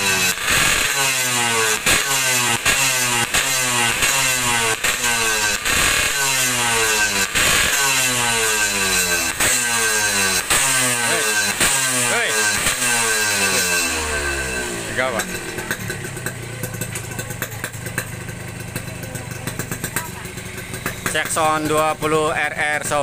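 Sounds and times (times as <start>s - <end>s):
exhaust cracks: 0.0s - 23.0s
motorcycle engine revving: 0.0s - 23.0s.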